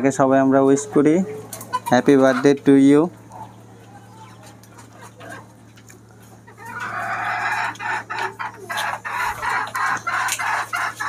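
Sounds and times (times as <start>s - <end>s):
chickens clucking: 0.0s - 11.0s
rapid squawking clucks: 1.0s - 11.0s.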